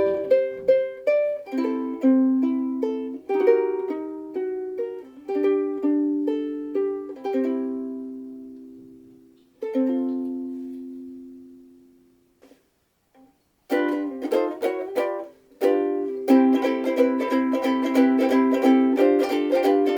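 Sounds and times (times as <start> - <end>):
ukulele chords: 0.0 - 12.6, 13.2 - 19.9
ukulele strumming: 0.0 - 12.6, 13.2 - 19.9.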